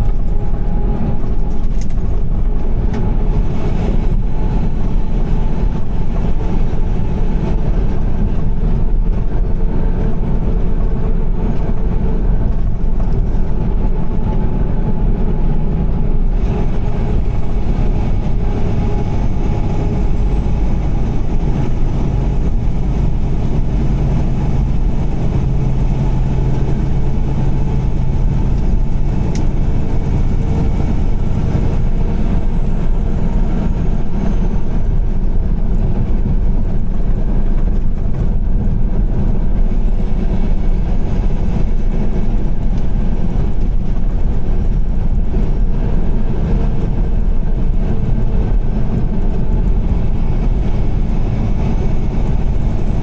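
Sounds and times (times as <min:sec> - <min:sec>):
car engine hum: 0:00.0 - 0:53.0
tyres rumbling on wet road: 0:00.0 - 0:53.0.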